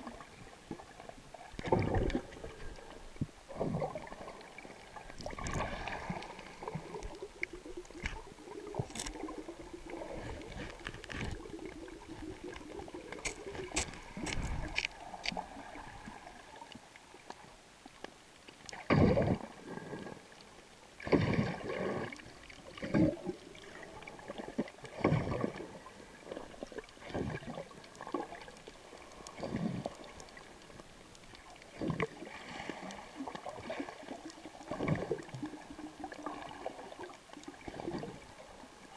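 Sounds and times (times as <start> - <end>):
water sloshing underwater: 0.0 - 38.9.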